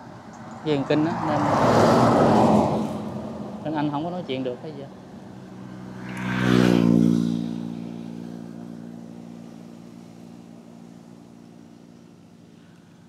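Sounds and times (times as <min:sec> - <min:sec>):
vehicle engine passing by: 0:00.0 - 0:12.7.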